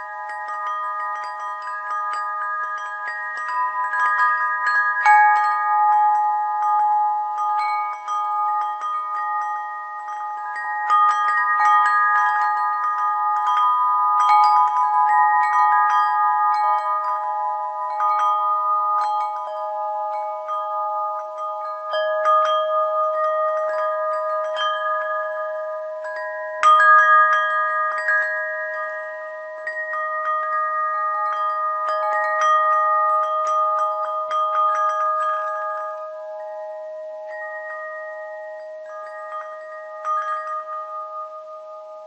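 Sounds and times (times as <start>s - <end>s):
wind chimes ringing: 0.0s - 42.0s.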